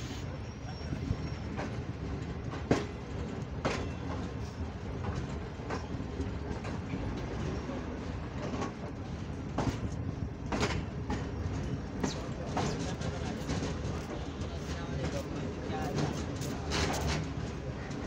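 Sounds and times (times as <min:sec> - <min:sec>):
train wheels rumbling on rails: 0:00.0 - 0:18.0
wheels clacking over rail joints: 0:01.4 - 0:18.0.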